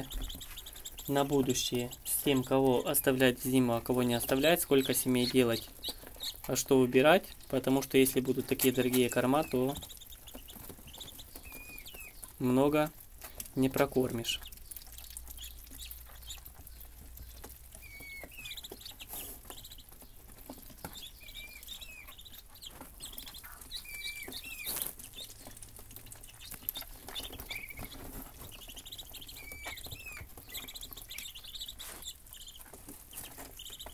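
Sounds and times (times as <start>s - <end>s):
ducklings peeping: 0.0s - 33.9s.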